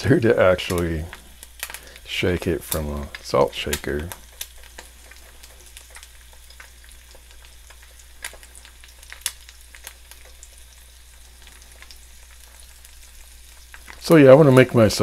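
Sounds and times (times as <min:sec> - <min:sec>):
eggs sizzling in pan: 0:00.0 - 0:15.0
oil crackles and pops: 0:00.0 - 0:15.0.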